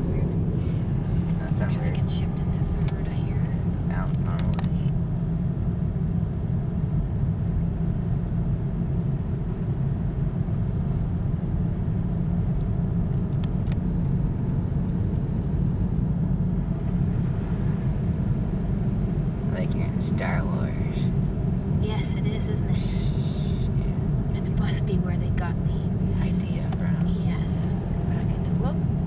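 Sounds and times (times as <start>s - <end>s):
car driving rumble from inside: 0.0s - 29.0s.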